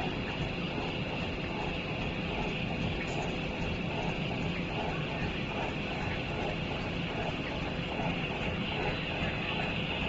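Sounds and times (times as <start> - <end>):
machinery hum and hiss: 0.0 - 10.0.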